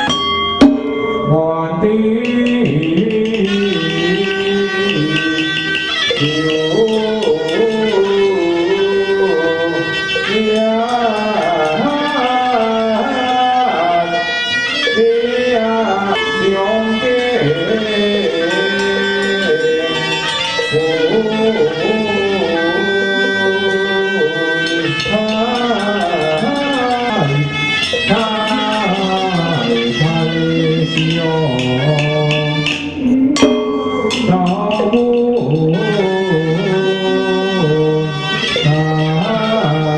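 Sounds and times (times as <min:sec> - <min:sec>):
percussion: 0:00.0 - 0:39.9
reedy wind instrument melody: 0:00.0 - 0:39.9.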